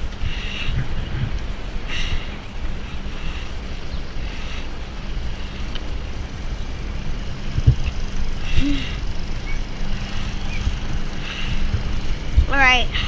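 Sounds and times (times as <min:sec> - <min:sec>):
wind and road rumble: 0:00.0 - 0:13.0.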